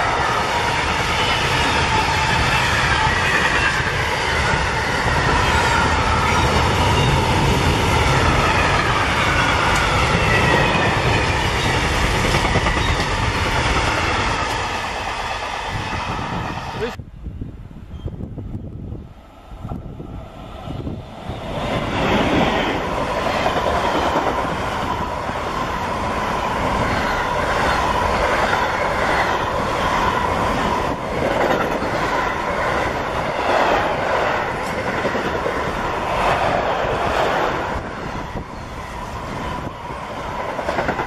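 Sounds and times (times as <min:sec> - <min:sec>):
steel wheels rolling on rail: 0:00.0 - 0:17.0, 0:17.9 - 0:41.0.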